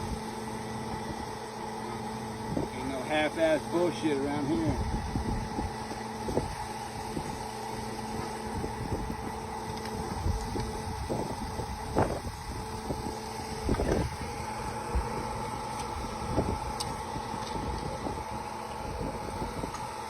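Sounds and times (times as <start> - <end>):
drilling rig machinery droning: 0.0 - 20.0.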